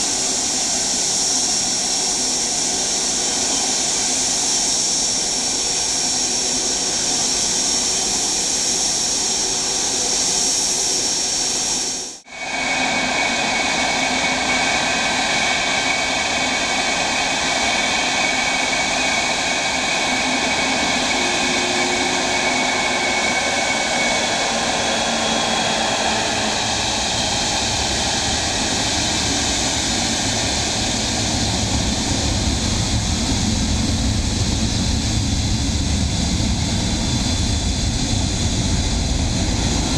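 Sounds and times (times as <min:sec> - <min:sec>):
jet engine whine: 0:00.0 - 0:39.9.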